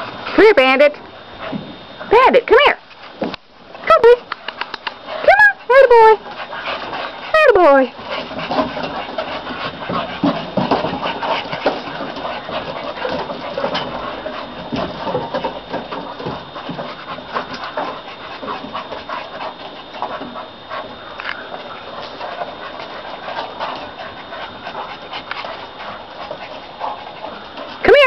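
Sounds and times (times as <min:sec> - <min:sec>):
puppies panting: 0:04.2 - 0:28.0.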